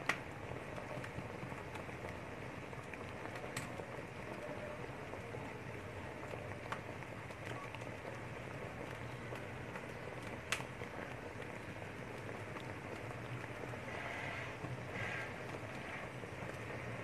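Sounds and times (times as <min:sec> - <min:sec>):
thick mixture bubbling in a pot: 0:00.0 - 0:17.0.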